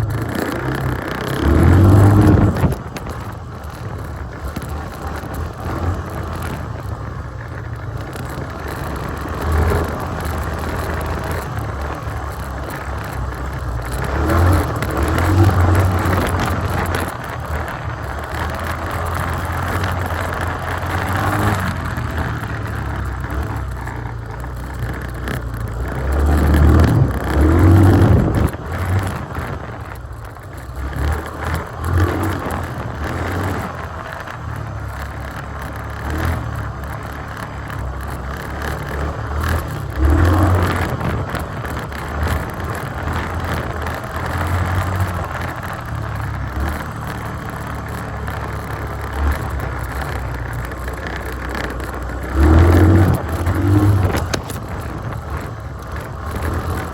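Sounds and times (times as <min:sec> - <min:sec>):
atv engine working hard: 0:00.0 - 0:56.9.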